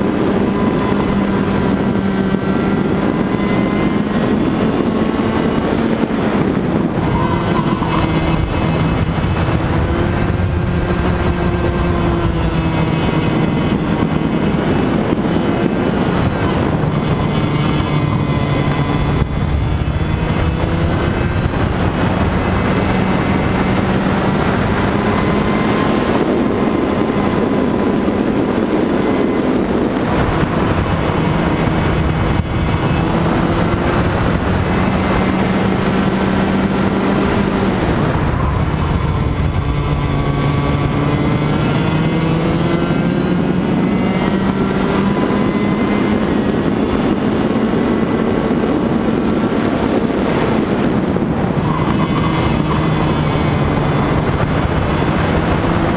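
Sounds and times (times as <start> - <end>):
two-stroke kart engine revving: 0.0 - 55.9.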